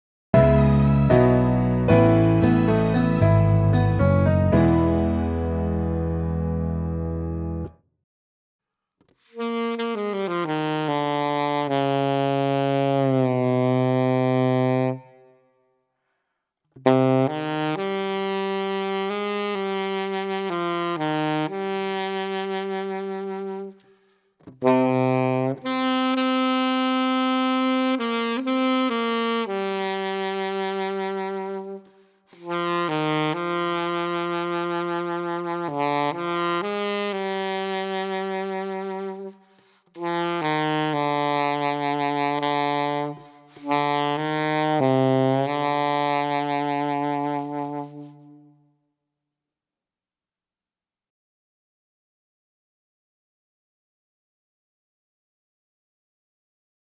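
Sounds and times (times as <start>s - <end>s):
alto saxophone melody: 0.4s - 7.8s, 9.1s - 15.5s, 16.8s - 48.8s.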